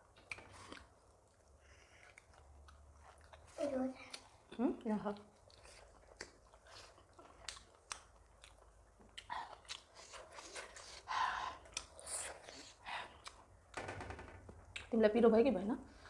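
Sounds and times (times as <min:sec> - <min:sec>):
person chewing food: 0:00.0 - 0:13.8.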